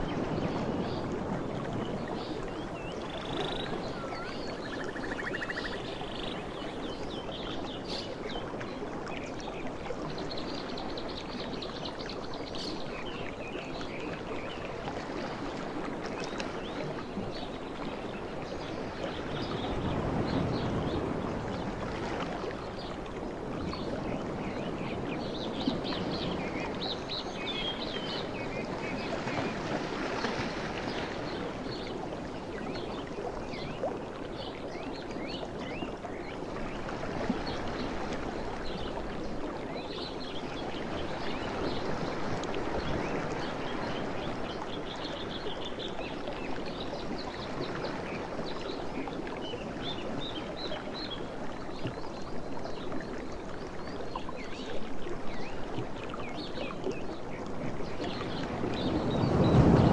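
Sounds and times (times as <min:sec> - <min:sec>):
sea waves washing on shore: 0:00.0 - 0:59.9.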